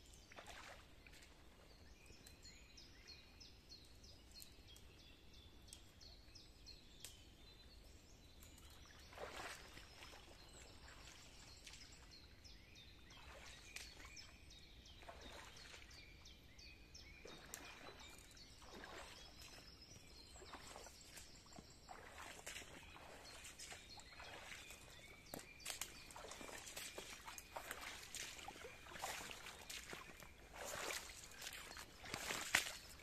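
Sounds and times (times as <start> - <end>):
rubber boots wading through water: 0.0 - 33.0.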